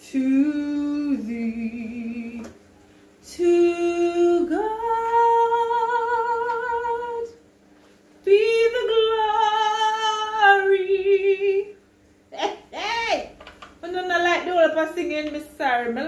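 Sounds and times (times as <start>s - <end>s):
woman singing unaccompanied: 0.0s - 2.6s, 3.2s - 7.4s, 8.2s - 16.0s.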